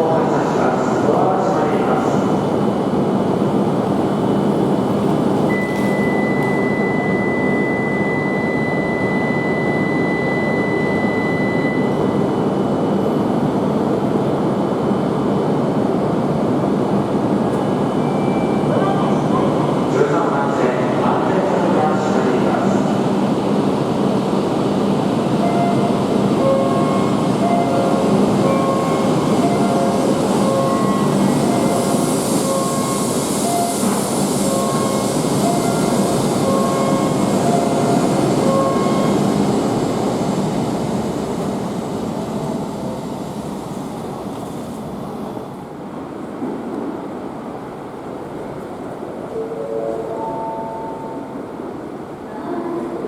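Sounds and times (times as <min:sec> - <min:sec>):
train rushing past: 0:00.0 - 0:53.0.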